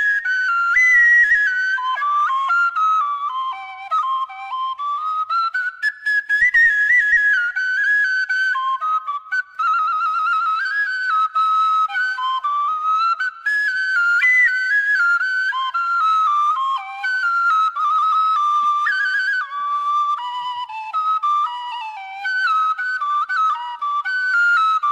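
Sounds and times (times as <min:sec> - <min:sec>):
bamboo flute melody with trills: 0:00.0 - 0:24.9.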